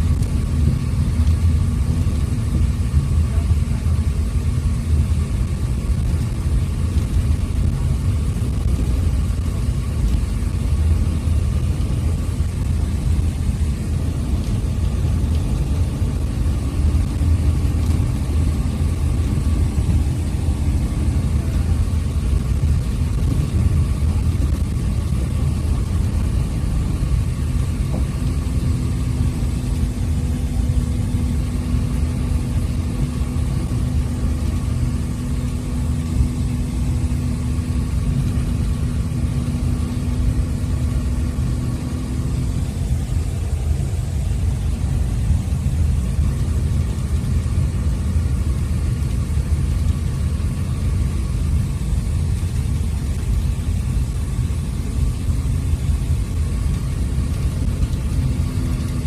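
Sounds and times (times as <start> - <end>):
bus engine hum: 0.0 - 59.0
bus road noise rumble: 0.0 - 59.0.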